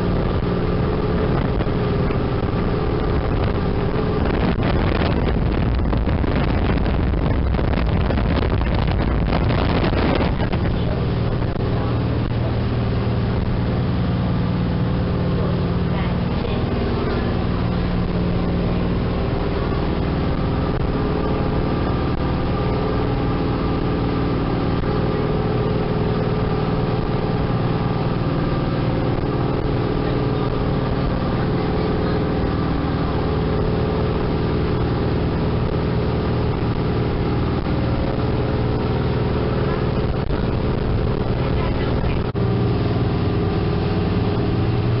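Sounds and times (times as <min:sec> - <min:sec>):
boat engine drone: 0:00.0 - 0:45.0
water rushing from wake: 0:00.0 - 0:45.0.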